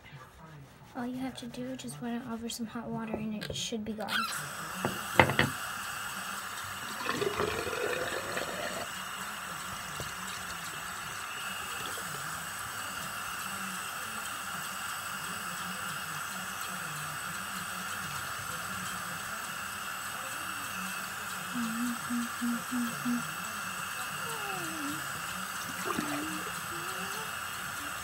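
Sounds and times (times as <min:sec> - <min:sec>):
water running from a tap: 0:04.2 - 0:28.0.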